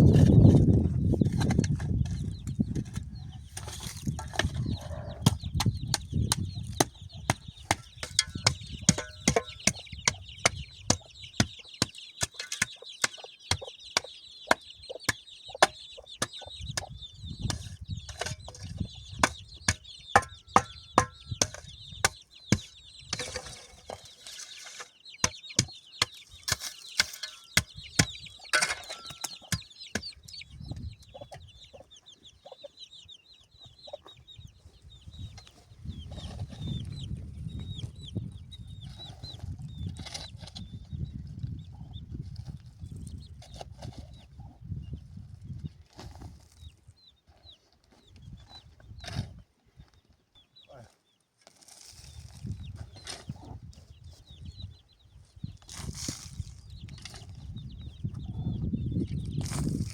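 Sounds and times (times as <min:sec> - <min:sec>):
birds chirping: 0:00.0 - 0:45.8, 0:46.5 - 0:51.4, 0:52.0 - 0:59.9.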